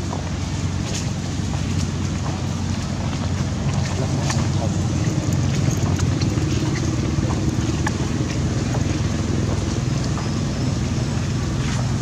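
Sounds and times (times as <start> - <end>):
motor droning hum: 0.0 - 12.0.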